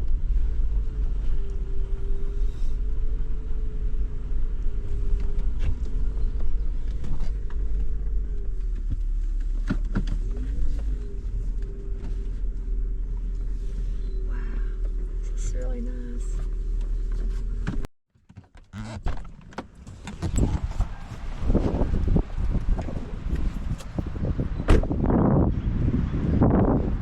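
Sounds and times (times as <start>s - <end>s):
vehicle cabin road noise: 0.0s - 27.0s.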